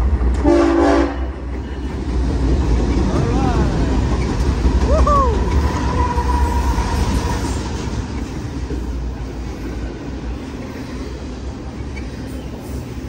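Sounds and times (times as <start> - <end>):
diesel locomotive engine rumble: 0.0 - 13.0
freight cars rolling on rails: 0.0 - 13.0.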